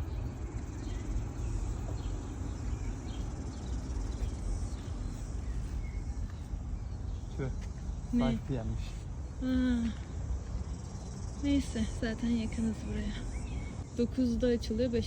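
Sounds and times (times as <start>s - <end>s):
faint insect hiss: 0.0s - 15.0s.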